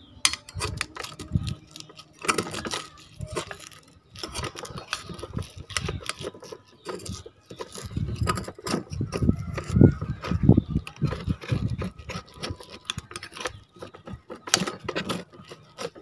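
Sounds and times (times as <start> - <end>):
metal spoon scraping frying pan: 0.2 - 16.0.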